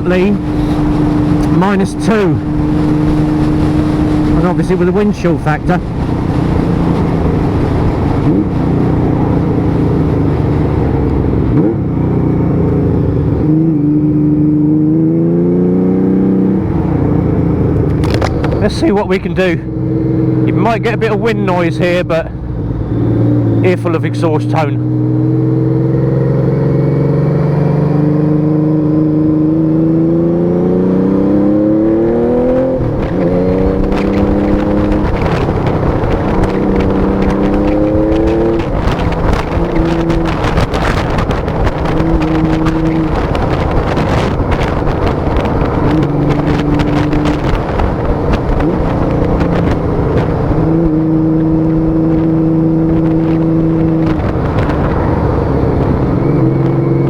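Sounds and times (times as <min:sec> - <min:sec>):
motorcycle engine accelerating: 0:00.0 - 0:57.0
wind noise over microphone: 0:00.0 - 0:57.0.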